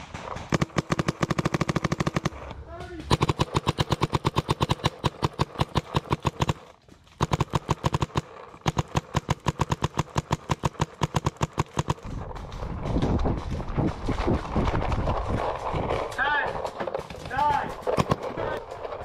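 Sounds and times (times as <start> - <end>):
paintball marker firing rapidly: 0.0 - 16.0, 16.6 - 18.6.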